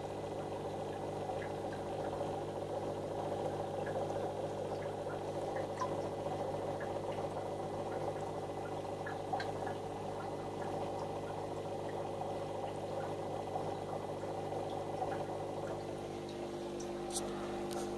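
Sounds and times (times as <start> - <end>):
water bubbling: 0.0 - 17.9.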